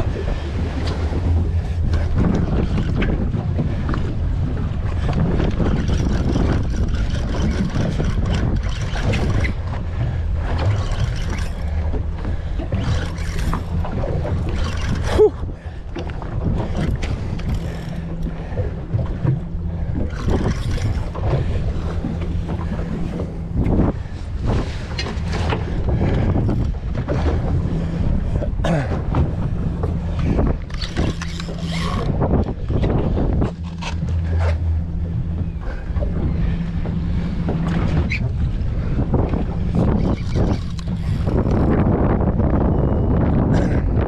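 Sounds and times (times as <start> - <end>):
outboard engines idling: 0.0 - 44.0
wind buffeting microphone: 0.0 - 44.0.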